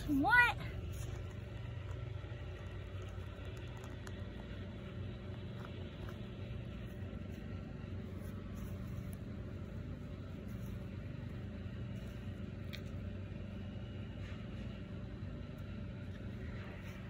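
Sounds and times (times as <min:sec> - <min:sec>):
low hum: 0:00.0 - 0:17.0
low rumble: 0:00.0 - 0:17.0.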